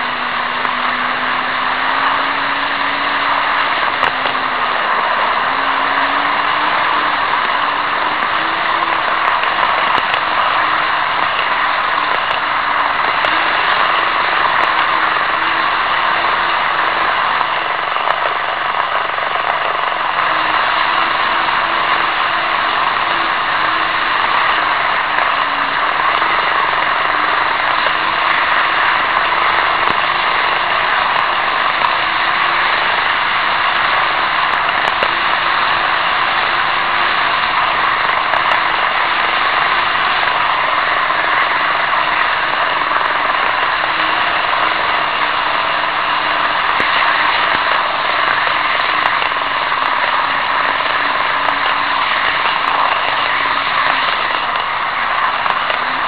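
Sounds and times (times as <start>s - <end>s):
faint motor hum: 0.0s - 56.0s
model train wheels whirring on rails: 0.0s - 56.0s.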